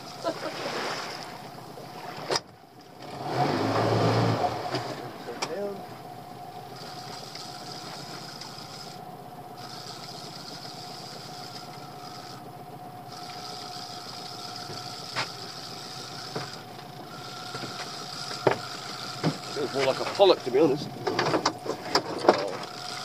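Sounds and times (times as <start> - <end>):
outboard motor idling: 0.0 - 23.0.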